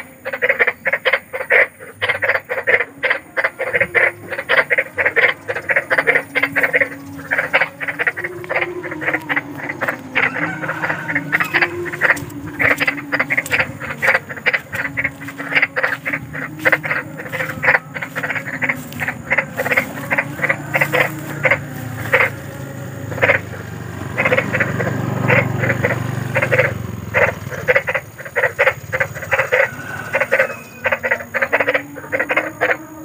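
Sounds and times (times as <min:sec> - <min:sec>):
frogs croaking: 0:00.0 - 0:33.0
low wavering drone: 0:00.0 - 0:33.0.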